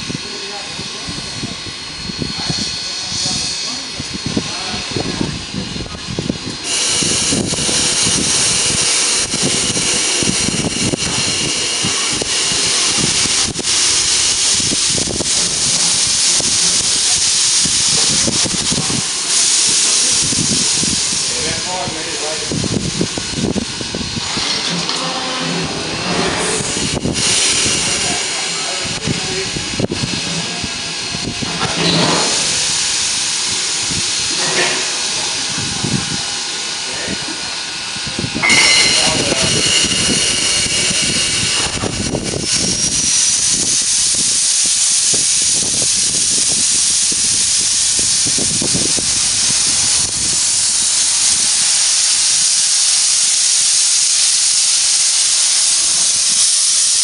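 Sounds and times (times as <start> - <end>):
steam venting hiss: 0.0 - 57.0.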